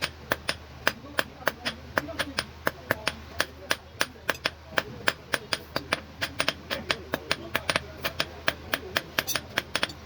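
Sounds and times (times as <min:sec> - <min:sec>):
hammers striking metal on anvil: 0:00.0 - 0:10.0.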